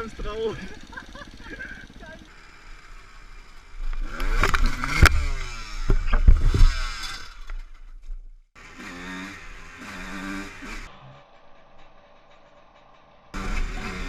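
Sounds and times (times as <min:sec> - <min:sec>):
dirt bike engine revving: 0:00.0 - 0:07.7, 0:08.6 - 0:14.0.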